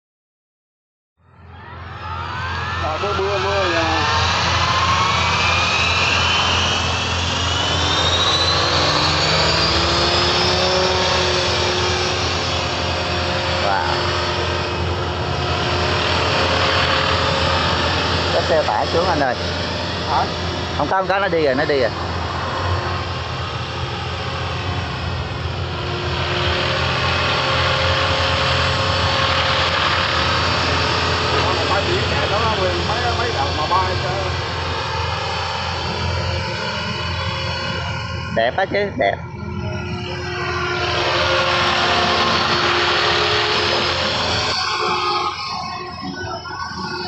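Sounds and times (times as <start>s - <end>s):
helicopter motor and rotor whine: 1.3s - 47.0s
steady low hum: 1.7s - 47.0s.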